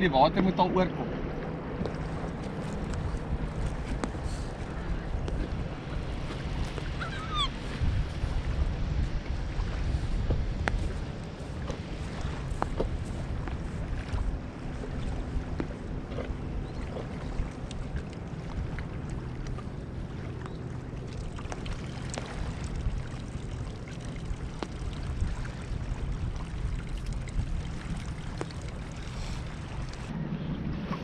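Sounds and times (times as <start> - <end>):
wind noise on microphone: 1.8 - 18.8, 21.6 - 31.0.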